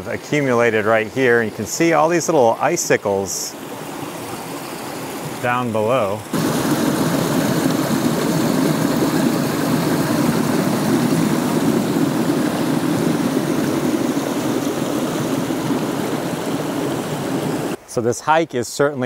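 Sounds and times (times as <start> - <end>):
stream rushing over rocks: 0.0 - 17.8.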